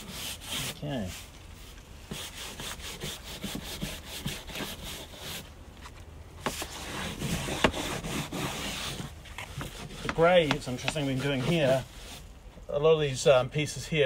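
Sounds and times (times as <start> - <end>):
brush scrubbing wood: 0.0 - 5.5, 6.4 - 12.3.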